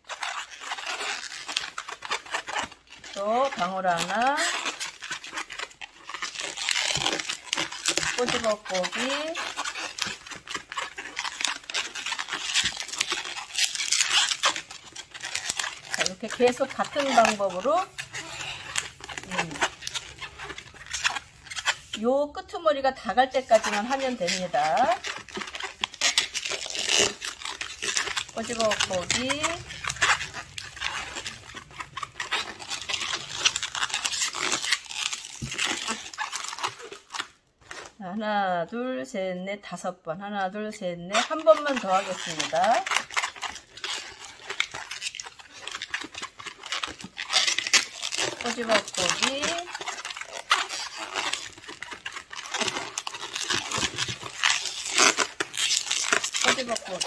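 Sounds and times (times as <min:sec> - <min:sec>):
balloon rubbing and creaking: 0:00.0 - 0:38.0, 0:41.0 - 0:57.0.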